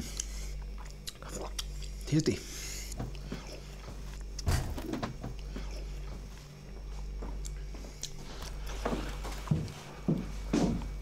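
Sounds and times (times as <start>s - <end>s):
low room tone hum: 0.0s - 11.0s.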